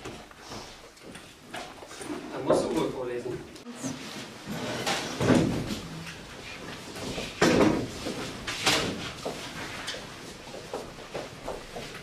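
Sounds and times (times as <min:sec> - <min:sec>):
students shuffling about: 0:00.0 - 0:12.0.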